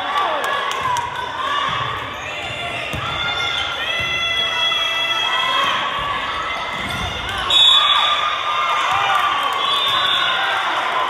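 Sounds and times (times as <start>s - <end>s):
girls shouting and cheering: 0.0s - 11.0s.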